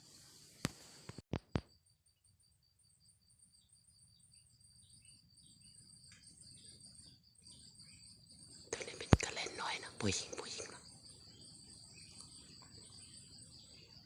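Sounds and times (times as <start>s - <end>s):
insects trilling: 1.7s - 14.0s.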